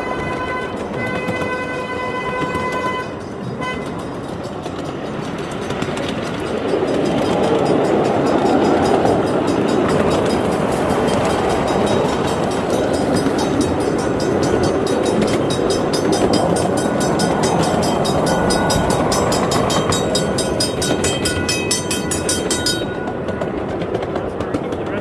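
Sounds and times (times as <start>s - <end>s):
fast even track clicking: 0.0s - 25.0s
miniature train rumbling: 0.0s - 25.0s.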